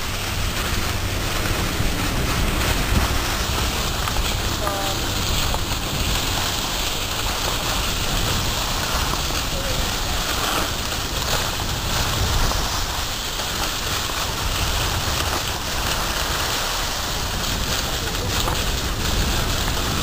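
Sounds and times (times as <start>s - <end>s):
skis scraping over packed snow: 0.0s - 20.0s
wind buffeting microphone: 0.0s - 20.0s.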